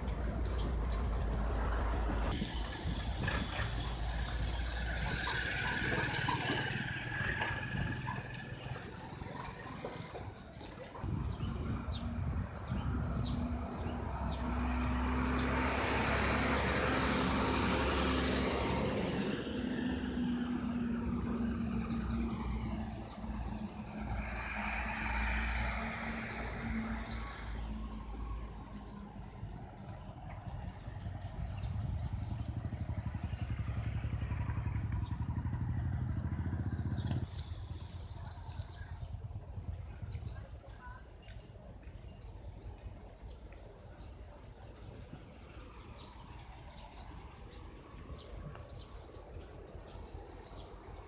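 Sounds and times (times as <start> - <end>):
vehicle engines passing: 0.0 - 51.0
birds chirping: 3.0 - 51.0.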